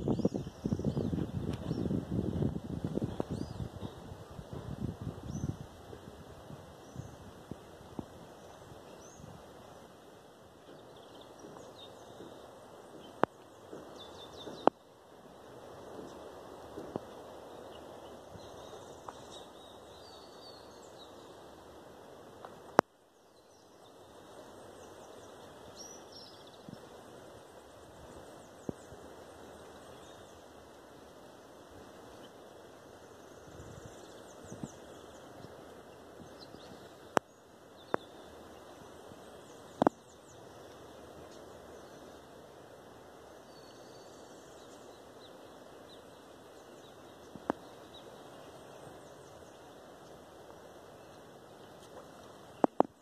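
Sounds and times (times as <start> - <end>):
birds chirping: 0.0 - 53.0
outdoor background hiss: 0.0 - 53.0.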